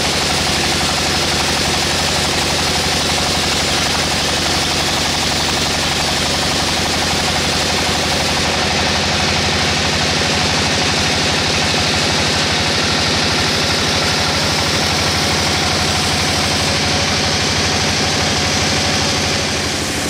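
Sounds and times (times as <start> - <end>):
sawmill drive pulsing: 0.0 - 20.0.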